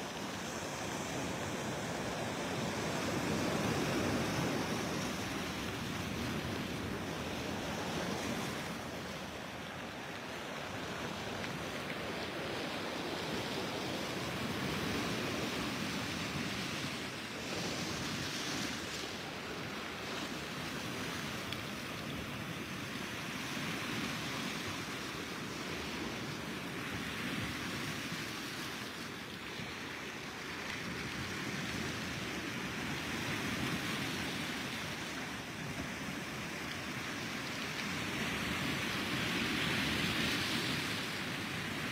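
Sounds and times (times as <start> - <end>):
small waves breaking on shore: 0.0 - 41.9.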